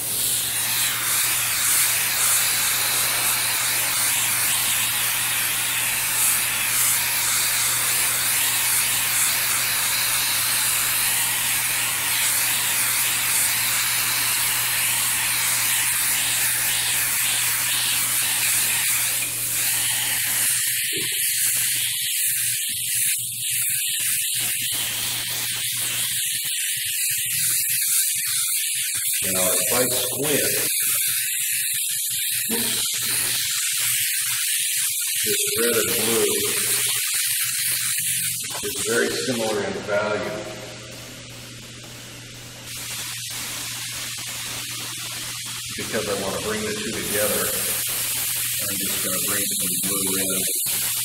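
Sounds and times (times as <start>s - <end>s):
airbrush spraying hiss: 0.0s - 39.6s, 40.5s - 51.0s.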